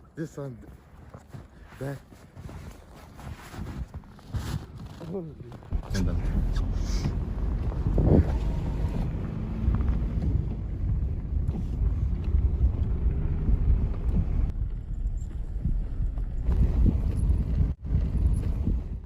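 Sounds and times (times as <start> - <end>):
wind buffeting the microphone: 2.3 - 19.0.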